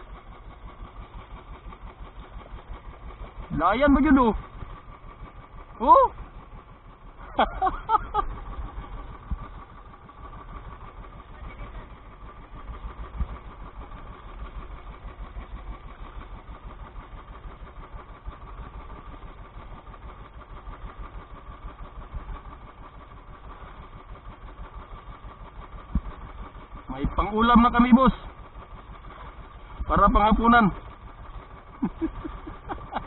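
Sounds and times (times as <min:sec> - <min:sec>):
small engine idling: 0:00.0 - 0:33.0.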